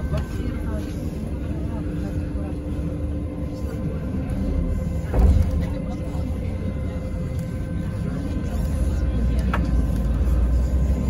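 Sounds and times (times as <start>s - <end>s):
bus engine and road rumble: 0.0s - 11.0s
faint whine tones: 0.0s - 11.0s.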